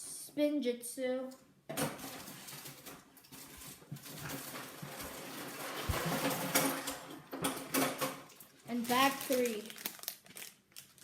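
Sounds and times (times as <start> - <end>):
plastic bags rustling: 2.0 - 11.0.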